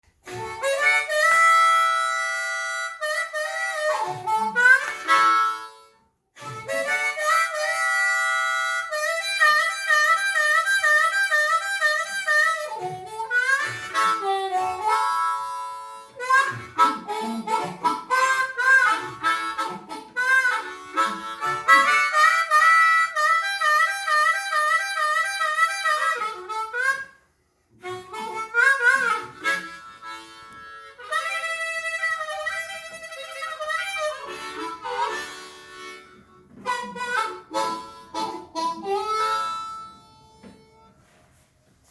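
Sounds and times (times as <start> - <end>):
harmonica playing chords: 0.1 - 41.5.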